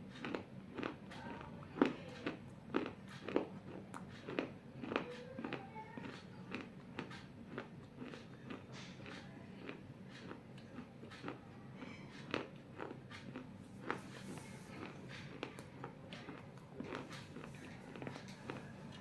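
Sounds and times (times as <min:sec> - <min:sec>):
clay bowl being chewed: 0:00.0 - 0:19.0.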